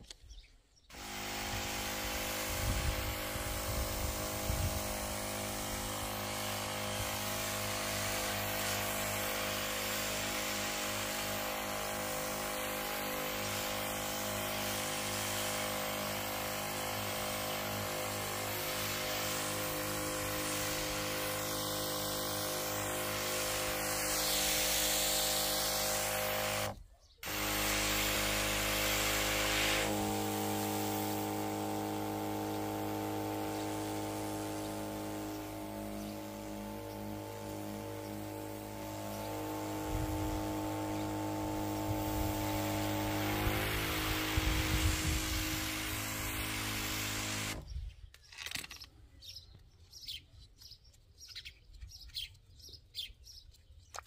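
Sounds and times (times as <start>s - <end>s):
spray mist hissing: 0.9s - 47.6s
electric pump humming: 0.9s - 47.7s.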